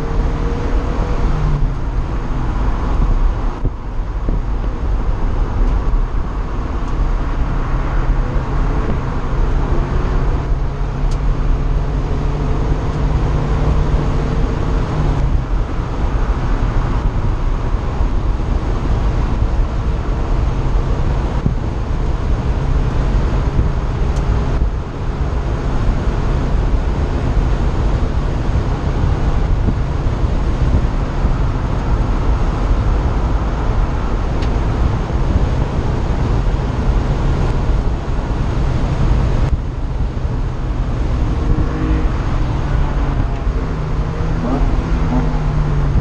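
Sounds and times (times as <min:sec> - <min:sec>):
car engine running hard: 0:00.0 - 0:46.0
heavy wind noise: 0:00.0 - 0:46.0.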